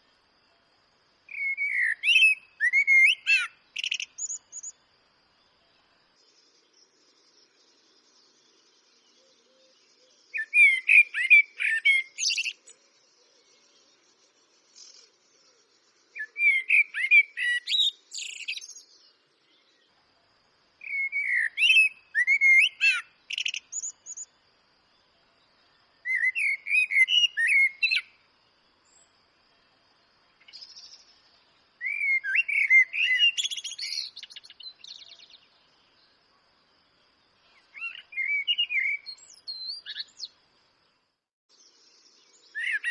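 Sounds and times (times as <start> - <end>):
blackbird singing: 1.3 - 4.8, 5.4 - 19.9, 20.8 - 24.3, 24.9 - 28.2, 30.4 - 36.2, 37.3 - 40.4, 41.5 - 42.9.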